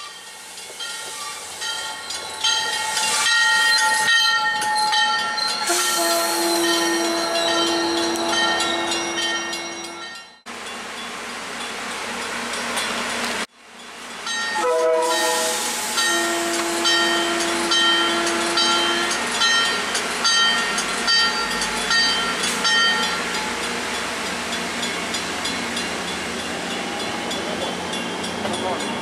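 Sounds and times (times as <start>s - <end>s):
train moving slowly: 0.0s - 29.0s.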